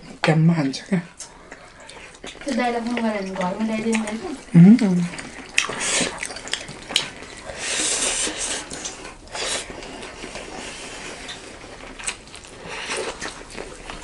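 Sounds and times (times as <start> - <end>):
food being mixed and chewed: 0.0 - 14.0.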